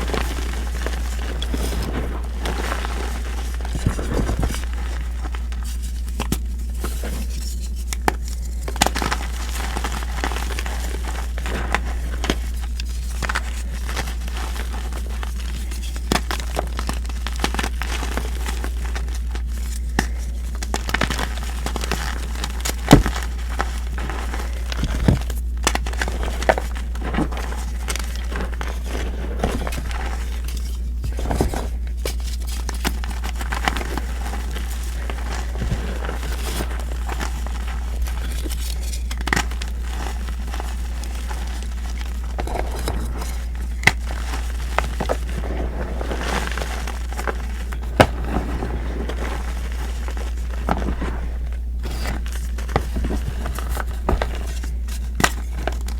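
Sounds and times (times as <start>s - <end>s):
chalk crunching and crumbling: 0.0s - 55.9s
steady low hum: 0.0s - 55.9s.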